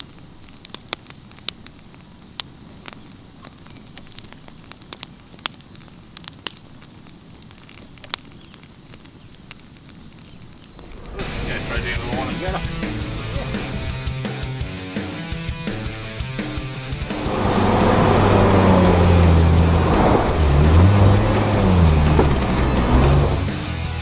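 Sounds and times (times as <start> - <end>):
campfire flames rushing: 0.0 - 24.0
fire crackling and popping: 0.0 - 24.0.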